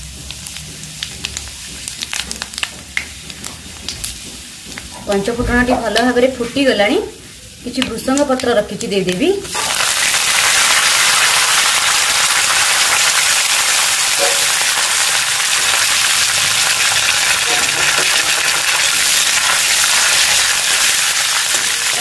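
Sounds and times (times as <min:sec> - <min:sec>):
leaves frying in hot oil: 0:00.0 - 0:22.0.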